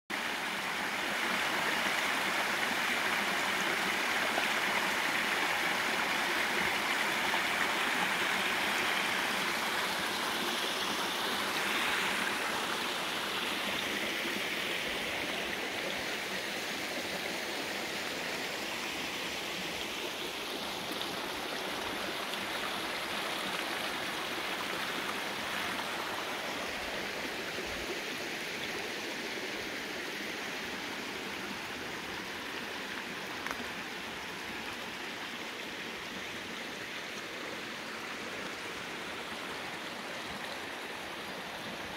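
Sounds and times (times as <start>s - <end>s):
mountain stream rushing: 0.1s - 41.9s.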